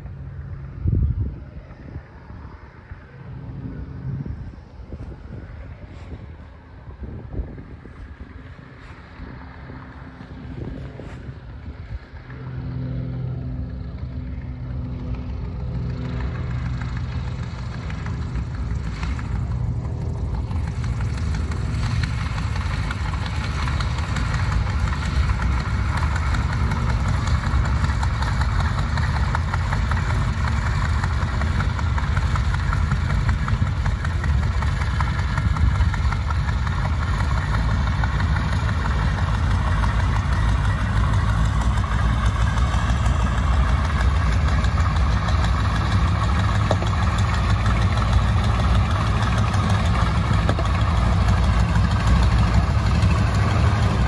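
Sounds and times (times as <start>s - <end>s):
biplane radial engine running: 0.0s - 54.0s.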